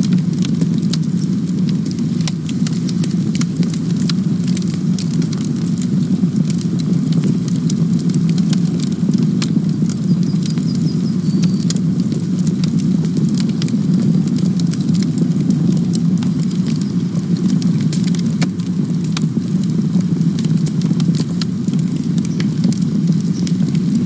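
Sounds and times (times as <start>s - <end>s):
burning wood crackling: 0.0s - 24.0s
rush of flames: 0.0s - 24.0s.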